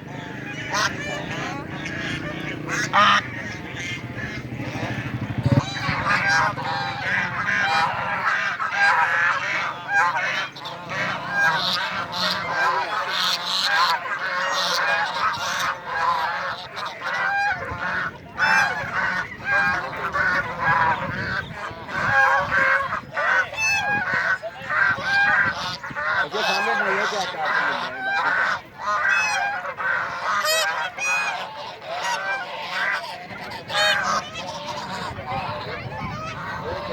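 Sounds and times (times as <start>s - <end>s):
ducks quacking: 0.0s - 36.9s.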